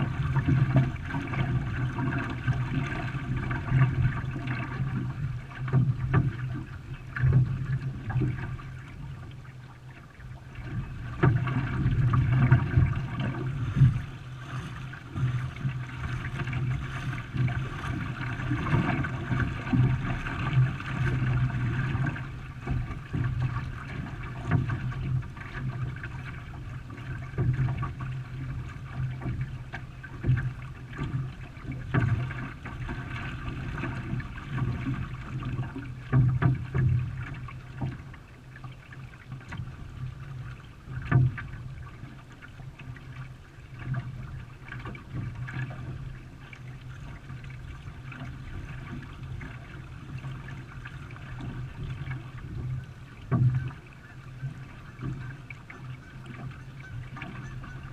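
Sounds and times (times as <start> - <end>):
water splashing around a canoe: 0.0 - 57.9.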